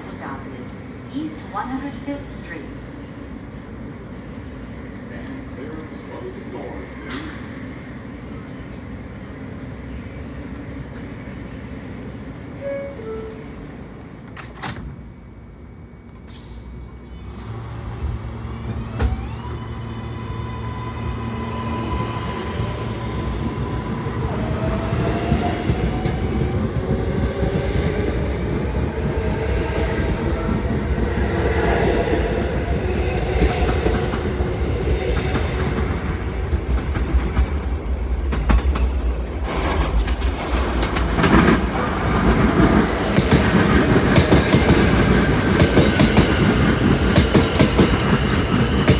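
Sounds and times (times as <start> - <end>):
train rumble: 0.0 - 48.9
train traction motors whining: 0.1 - 37.6, 40.8 - 48.9.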